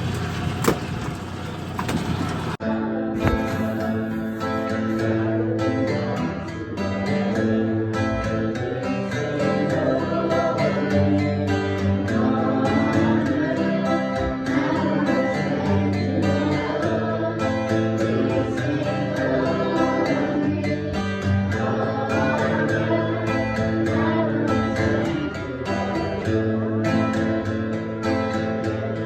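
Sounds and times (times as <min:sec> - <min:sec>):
acoustic guitar: 0:00.0 - 0:29.0
person singing: 0:02.6 - 0:29.0.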